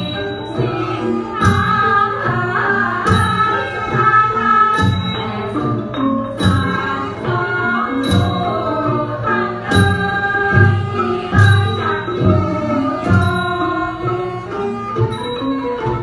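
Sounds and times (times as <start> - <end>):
held melody: 0.0 - 16.0
xylophone: 0.0 - 16.0.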